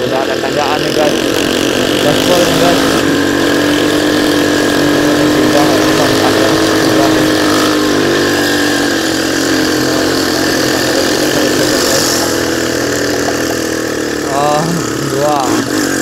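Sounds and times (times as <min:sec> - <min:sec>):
motorcycle engine at full throttle: 0:00.0 - 0:16.0.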